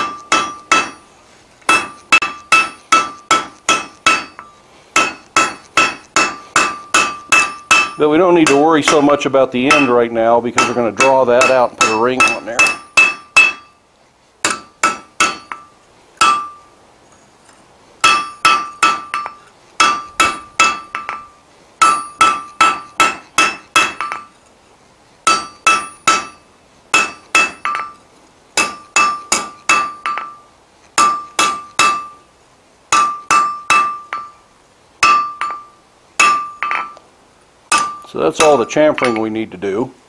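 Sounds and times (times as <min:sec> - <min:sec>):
hammer striking steel on anvil: 0:00.0 - 0:01.1, 0:01.7 - 0:13.8, 0:14.4 - 0:16.7, 0:18.0 - 0:24.3, 0:25.3 - 0:28.0, 0:28.6 - 0:32.2, 0:32.9 - 0:34.4, 0:35.0 - 0:37.0, 0:37.7 - 0:39.4.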